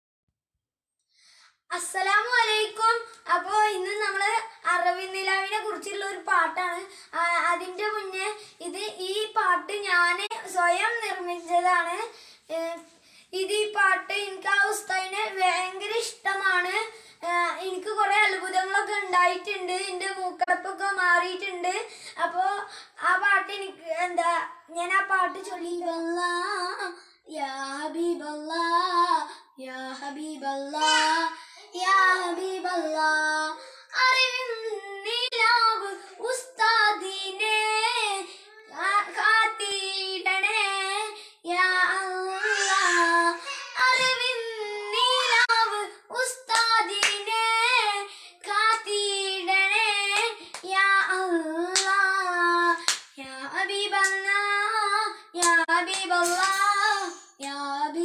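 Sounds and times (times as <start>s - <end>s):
boy singing unaccompanied: 1.7s - 58.0s.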